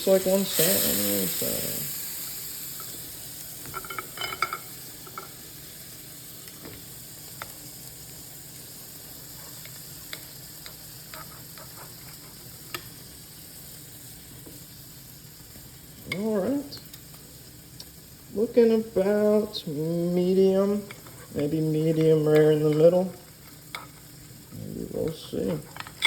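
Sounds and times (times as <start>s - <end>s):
faint sizzle in a pan: 0.0s - 26.0s.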